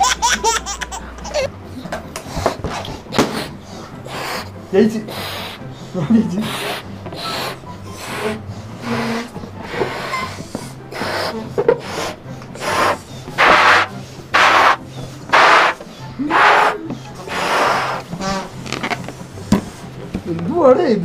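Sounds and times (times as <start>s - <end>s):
people blowing up balloons: 2.2s - 19.9s.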